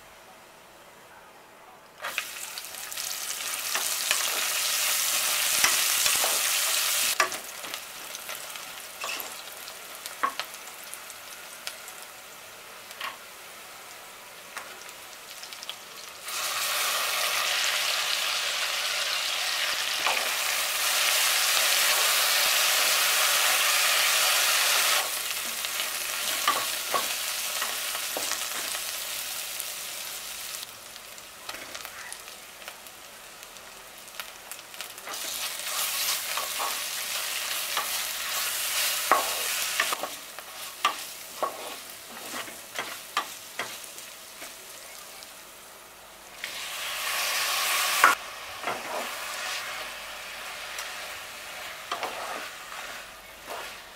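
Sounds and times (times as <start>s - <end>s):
food sizzling in hot oil: 2.0s - 53.9s.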